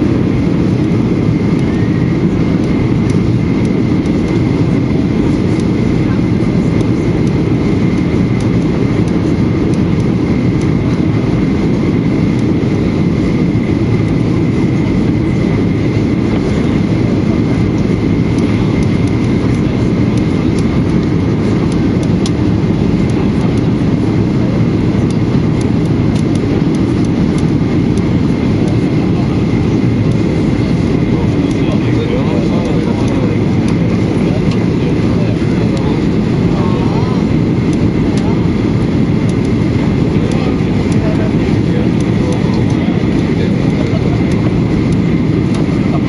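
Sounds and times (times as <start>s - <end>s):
air rushing over fuselage: 0.0s - 46.0s
jet engines rumbling: 0.0s - 46.0s.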